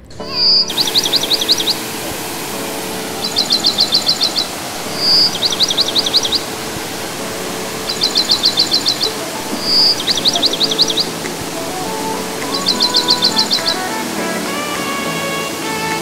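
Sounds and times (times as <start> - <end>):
songbird singing: 0.0 - 16.0
falling water rushing: 0.1 - 16.0.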